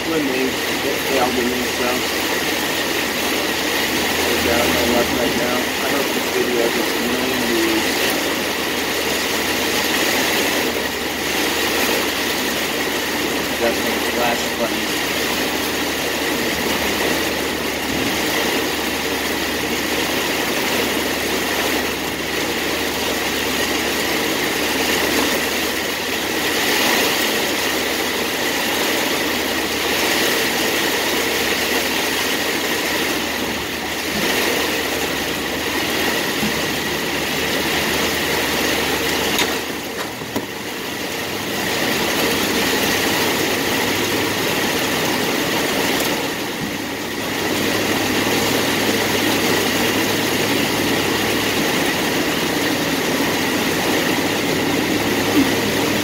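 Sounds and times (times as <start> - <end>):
car engine running: 0.0 - 56.0
heavy rain on car roof: 0.0 - 56.0.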